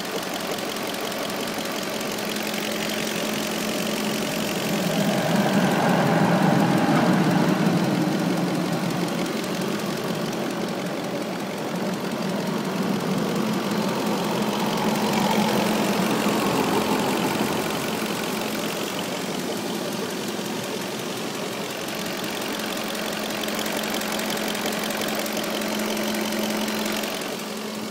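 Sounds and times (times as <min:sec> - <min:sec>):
car engine idling: 0:00.0 - 0:27.9
fast light engine ticking: 0:00.0 - 0:27.9.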